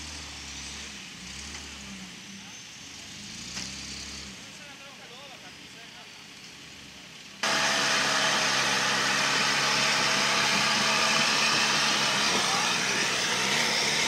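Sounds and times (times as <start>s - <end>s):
off-road vehicle engine in mud: 0.0s - 14.0s.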